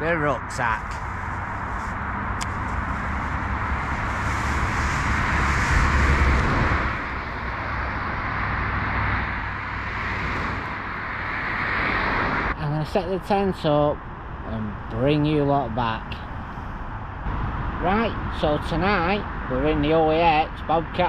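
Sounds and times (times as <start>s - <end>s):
road traffic hiss and rumble: 0.0s - 21.0s
vehicle passing: 0.0s - 21.0s.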